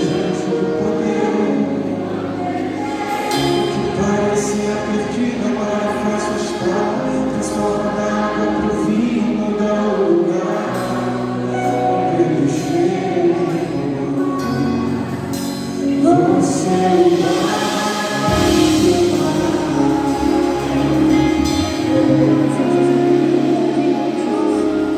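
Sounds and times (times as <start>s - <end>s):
choir singing gospel music: 0.0s - 24.9s.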